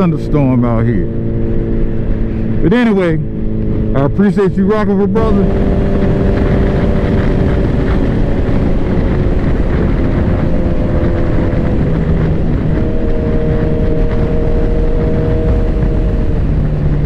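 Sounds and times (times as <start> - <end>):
motorcycle engine running: 0.0 - 17.0
wind rush over microphone: 0.0 - 17.0.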